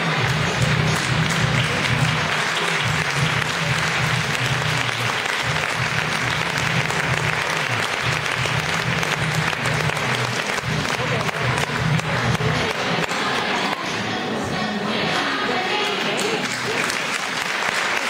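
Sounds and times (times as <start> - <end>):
audience applauding: 0.0 - 13.8, 16.0 - 18.0
background music: 0.0 - 18.0.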